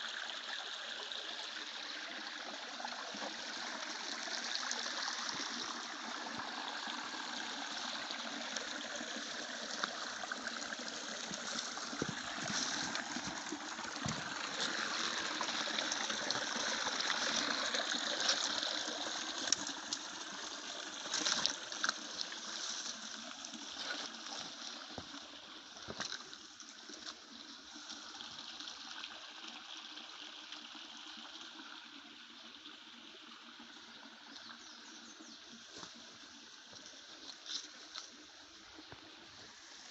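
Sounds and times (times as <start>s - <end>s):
waterfall stream running: 0.0s - 34.5s.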